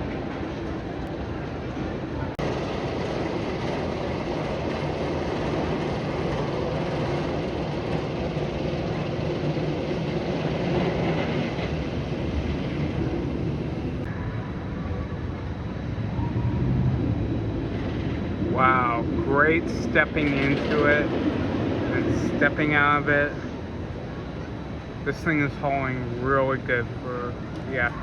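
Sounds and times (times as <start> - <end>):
roller coaster train rumbling: 0.0 - 28.0.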